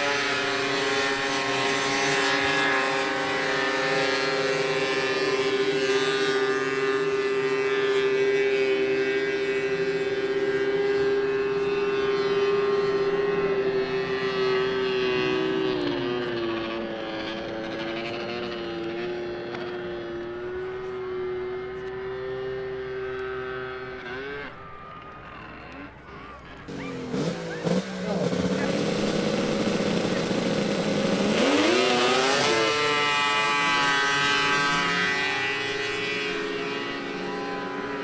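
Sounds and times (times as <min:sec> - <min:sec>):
snowmobile engine revving: 0:00.0 - 0:38.0.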